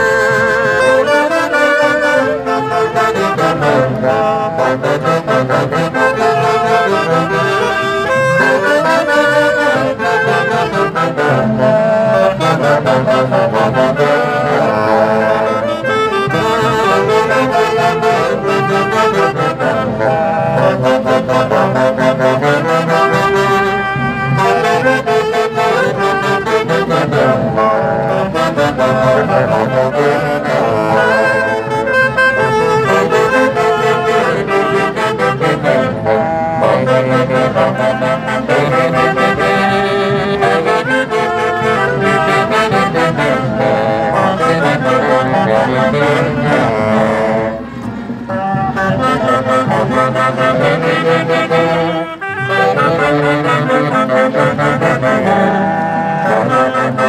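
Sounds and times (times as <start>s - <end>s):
loud brass band music: 0.0s - 57.0s.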